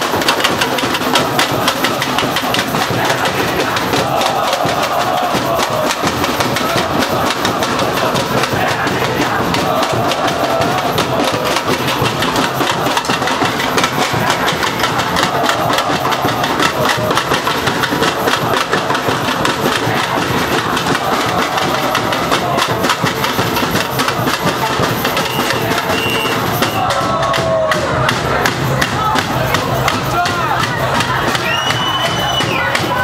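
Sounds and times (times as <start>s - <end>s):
massed percussion drumming: 0.0s - 33.0s.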